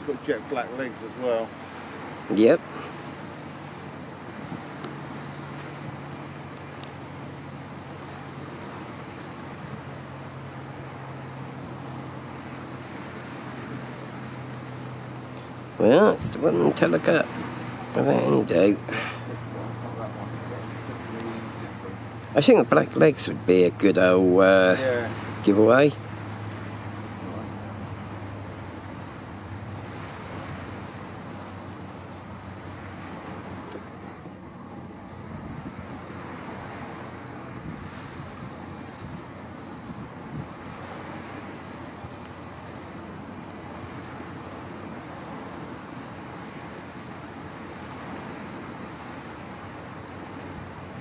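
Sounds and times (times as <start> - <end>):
small waves breaking on beach: 0.0 - 51.0
surf washing on shore: 0.0 - 51.0
wind: 0.0 - 51.0.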